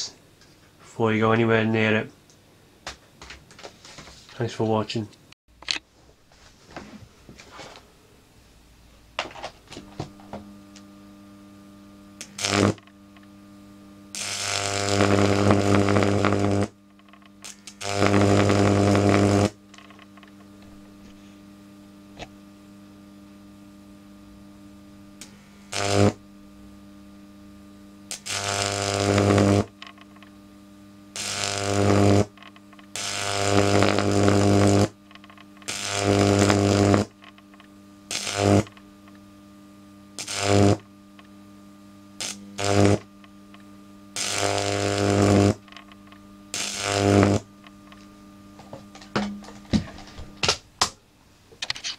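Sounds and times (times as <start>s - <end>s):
electric arc buzzing: 0.0s - 0.2s, 7.4s - 51.9s.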